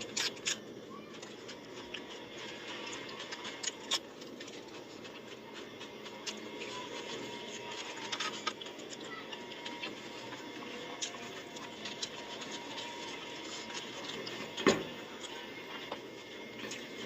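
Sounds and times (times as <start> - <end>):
crisp crackles of eating: 0.0 - 17.0
steady background noise: 0.0 - 17.0.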